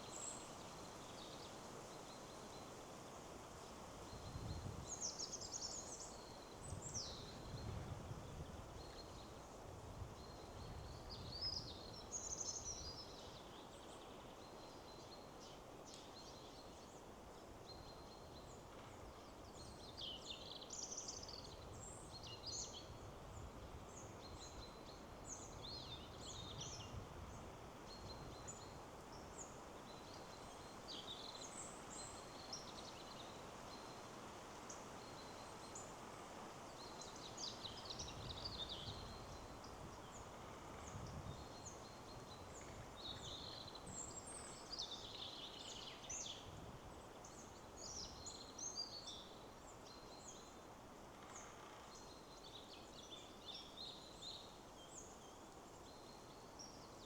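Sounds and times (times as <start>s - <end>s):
wind through trees: 0.0s - 57.0s.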